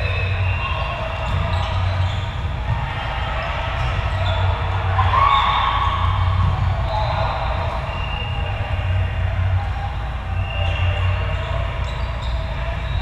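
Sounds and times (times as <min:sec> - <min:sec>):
players calling out: 0:00.0 - 0:13.0.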